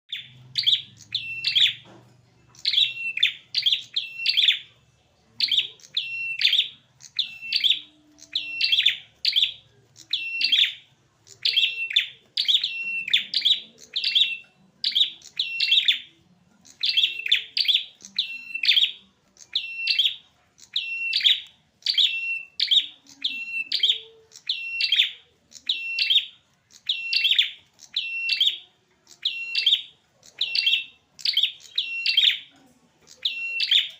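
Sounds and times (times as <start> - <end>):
bird sharp chirp calls: 0.1 - 1.9, 2.5 - 4.7, 5.3 - 33.9.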